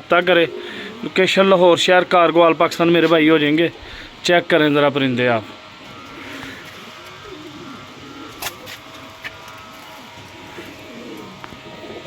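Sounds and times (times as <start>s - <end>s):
pigeons cooing: 0.0s - 4.2s, 5.5s - 12.0s.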